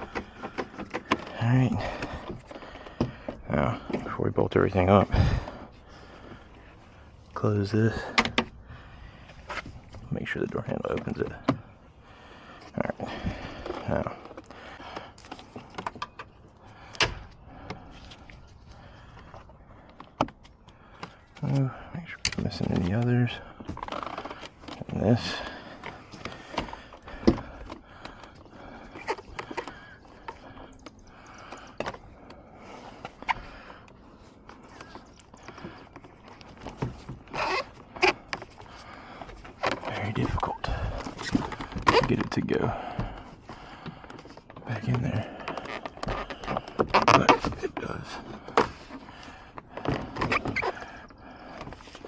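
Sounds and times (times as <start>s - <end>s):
plastic scraping: 0.0s - 7.0s, 7.9s - 52.0s.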